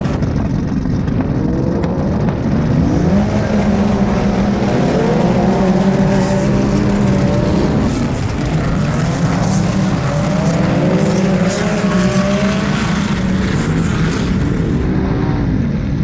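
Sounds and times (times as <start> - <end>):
off-road vehicle engine under throttle: 0.0 - 16.0.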